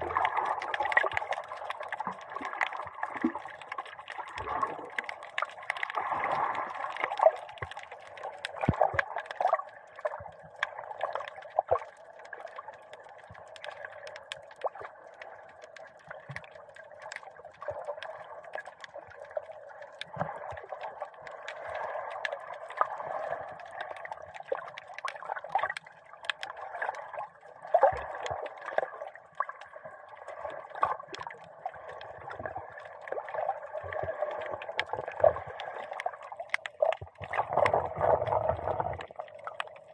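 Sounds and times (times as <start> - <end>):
small clicks: 0.2 - 27.2, 34.4 - 39.9.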